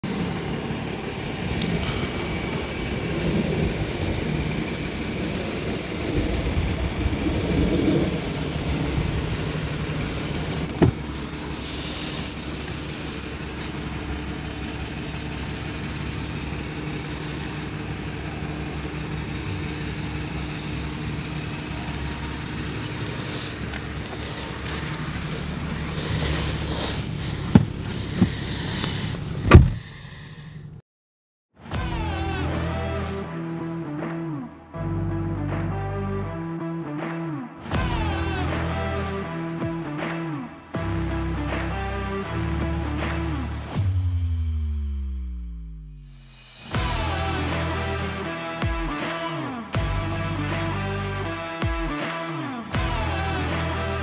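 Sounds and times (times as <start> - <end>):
car engine idling: 0.0 - 30.8, 37.6 - 54.0.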